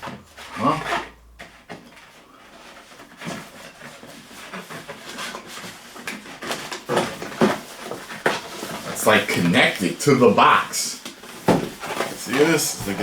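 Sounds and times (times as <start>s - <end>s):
cardboard packaging scraping and crinkling: 0.0s - 13.0s.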